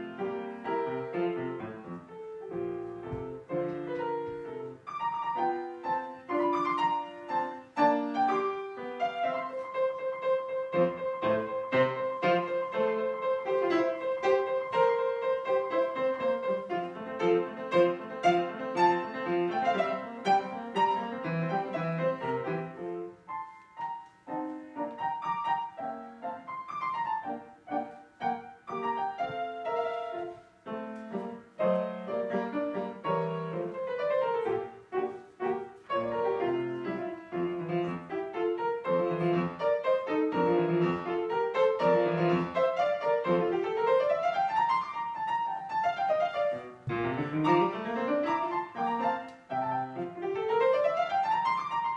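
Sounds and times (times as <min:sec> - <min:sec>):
piano: 0:00.0 - 0:51.9.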